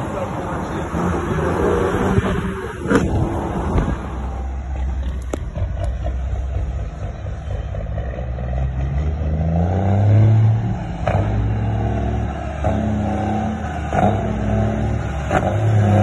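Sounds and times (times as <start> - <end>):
diesel truck engine revving: 0.0 - 16.0.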